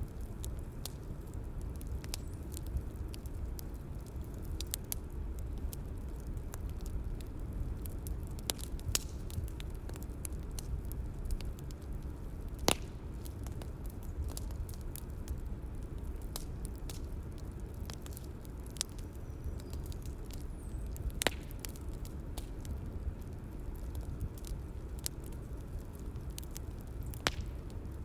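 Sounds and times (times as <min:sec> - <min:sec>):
bonfire burning wood rumble: 0:00.0 - 0:28.0
fire crackles and pops: 0:00.0 - 0:28.0.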